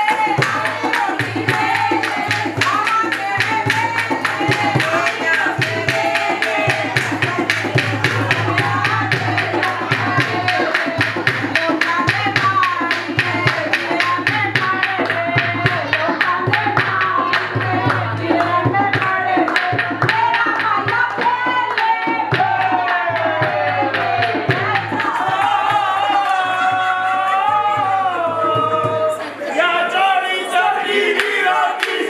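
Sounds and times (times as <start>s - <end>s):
fast drum beat: 0.0s - 29.1s.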